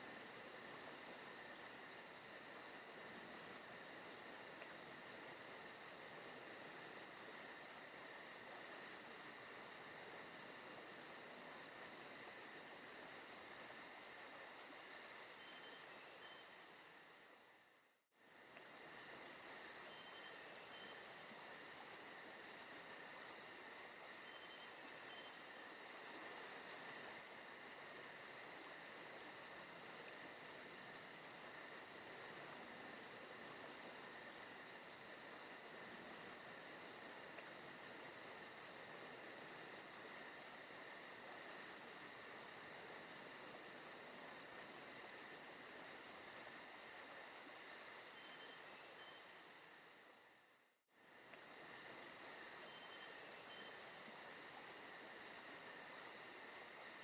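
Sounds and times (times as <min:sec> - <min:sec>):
insects chirring: 0:00.1 - 0:25.9, 0:26.6 - 0:57.0.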